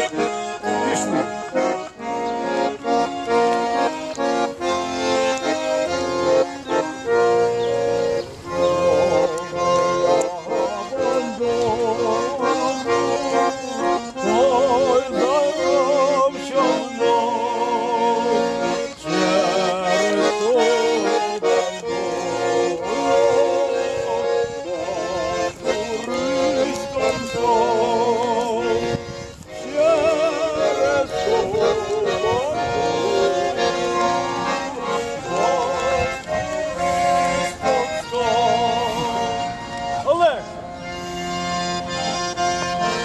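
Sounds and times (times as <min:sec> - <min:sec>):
button accordion playing folk tune: 0:00.0 - 0:43.0.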